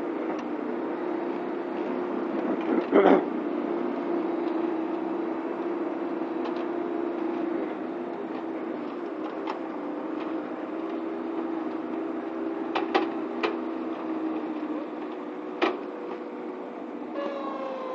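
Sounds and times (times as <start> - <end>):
flail mower humming: 0.0 - 17.9.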